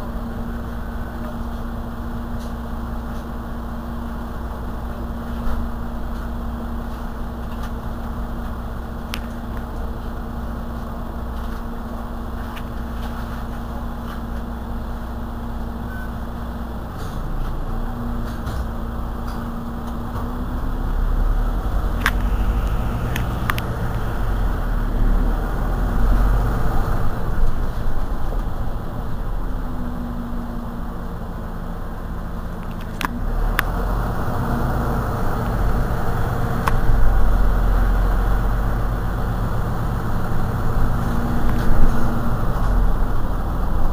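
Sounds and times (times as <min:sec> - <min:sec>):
bus engine idling: 0:00.0 - 0:43.9.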